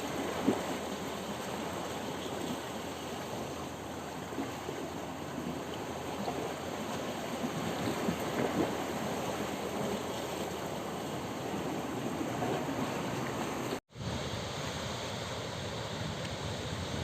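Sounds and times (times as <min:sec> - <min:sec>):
sea waves washing against rocks: 0:00.0 - 0:17.0.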